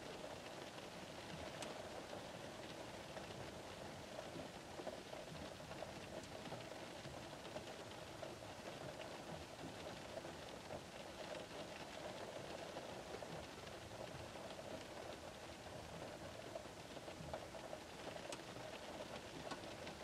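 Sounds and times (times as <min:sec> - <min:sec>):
rain pattering on a car: 0:00.0 - 0:20.0.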